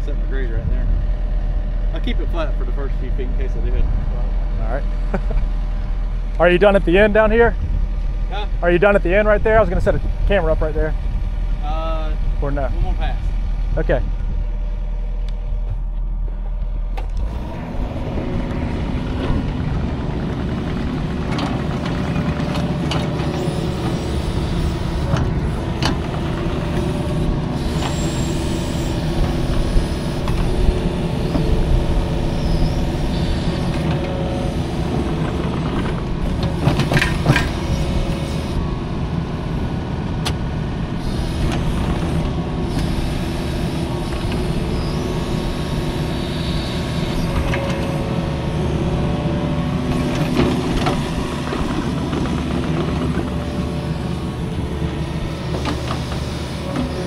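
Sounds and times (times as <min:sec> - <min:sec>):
diesel earthmoving machine running: 0:00.0 - 0:57.0.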